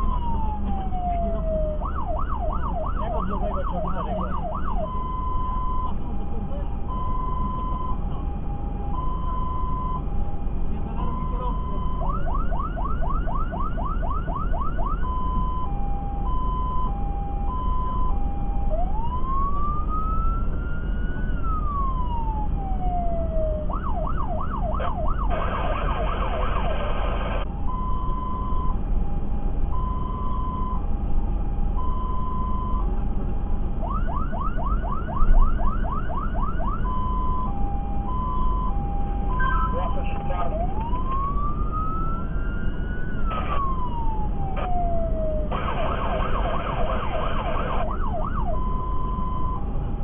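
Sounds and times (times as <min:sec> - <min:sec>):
fire engine siren: 0:00.0 - 0:49.9
truck engine and tyres rumbling: 0:00.0 - 0:50.0.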